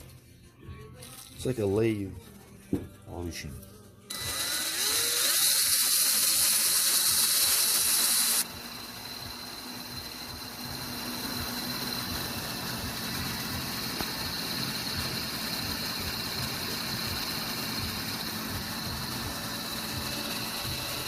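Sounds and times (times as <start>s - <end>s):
electric drill whining: 4.1s - 21.0s.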